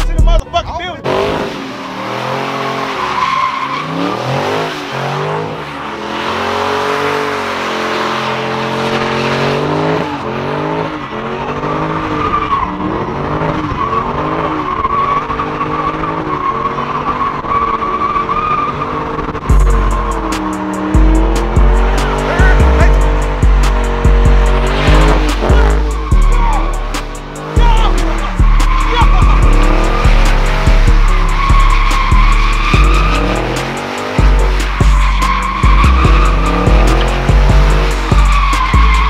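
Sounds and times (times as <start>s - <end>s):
car engine revving: 0.0s - 39.0s
tires squealing: 0.0s - 39.0s.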